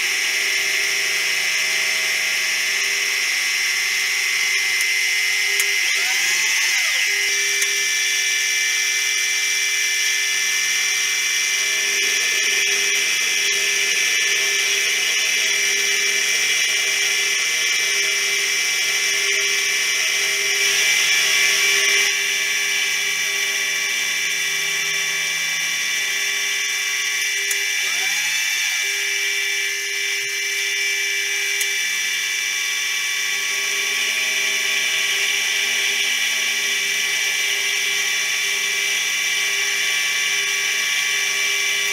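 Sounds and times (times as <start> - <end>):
milling machine cutting steel: 0.0 - 41.9.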